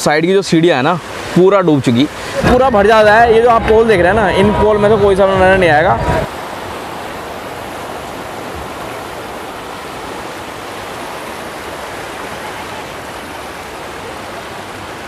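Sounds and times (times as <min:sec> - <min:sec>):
floodwater rushing over steps: 0:00.0 - 0:15.0.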